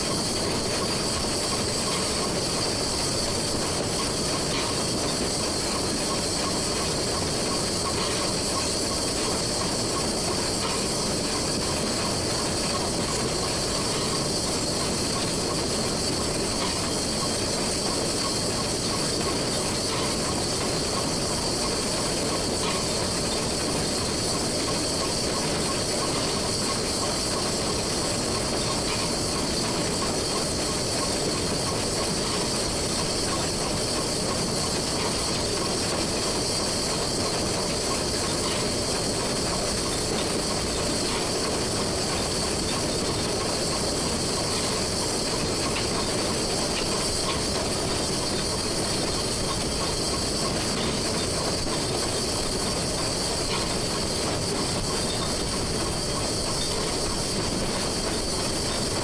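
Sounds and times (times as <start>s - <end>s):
steam hissing: 0.0s - 59.0s
train running on track: 0.0s - 59.0s.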